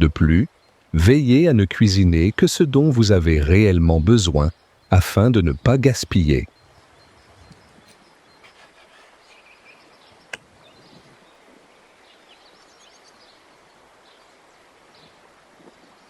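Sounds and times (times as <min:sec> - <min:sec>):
bird chirps: 0:02.0 - 0:16.0.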